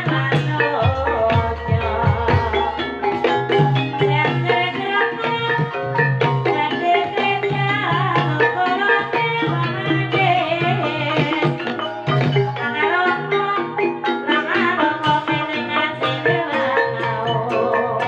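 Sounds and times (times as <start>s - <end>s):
gamelan music: 0.0s - 18.0s
ringing metallophone notes: 0.0s - 18.0s.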